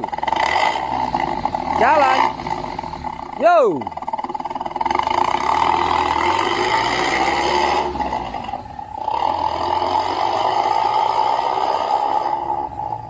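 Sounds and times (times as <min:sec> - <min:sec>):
loud exhaust engine note: 0:00.0 - 0:13.0.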